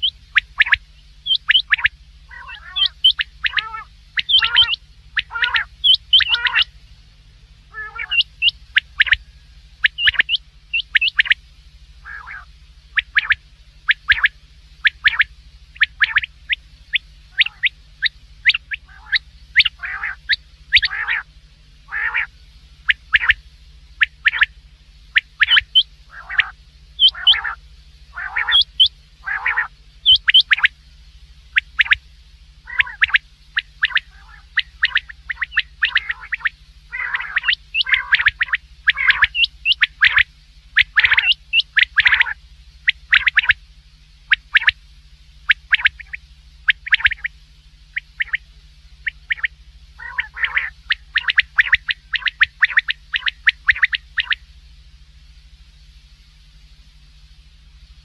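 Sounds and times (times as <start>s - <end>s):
quail calling: 0.0s - 6.8s, 7.7s - 11.4s, 12.0s - 23.4s, 24.0s - 30.8s, 31.5s - 32.0s, 32.6s - 43.6s, 44.3s - 44.8s, 45.4s - 54.4s
faint steady hum: 0.0s - 58.0s.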